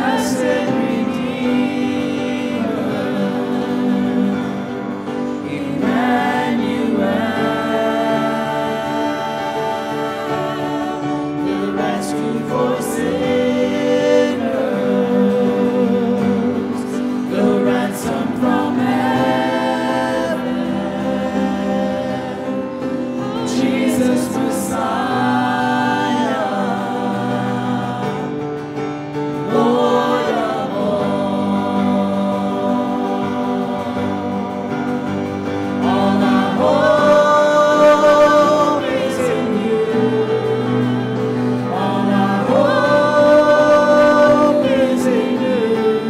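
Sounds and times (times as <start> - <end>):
instrumental backing: 0.0 - 46.0
vocal trio singing gospel: 0.0 - 46.0.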